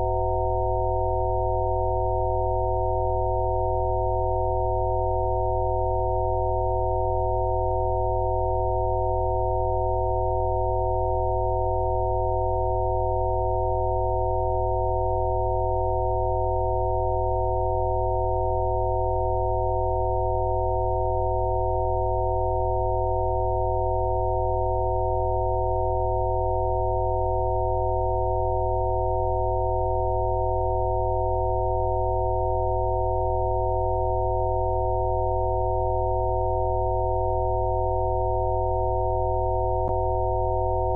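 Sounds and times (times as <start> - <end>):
steady sine tones: 0.0 - 40.9.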